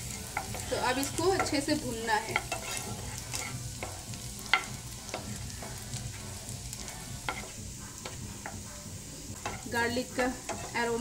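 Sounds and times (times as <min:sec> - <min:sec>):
wooden spatula scraping a pan: 0:00.0 - 0:08.6, 0:09.3 - 0:11.0
garlic sizzling in a frying pan: 0:00.0 - 0:11.0.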